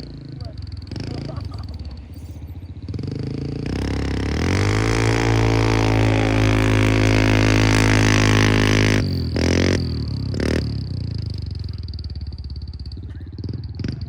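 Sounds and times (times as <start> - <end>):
engine revving with turbo whistle: 0.0 - 14.0.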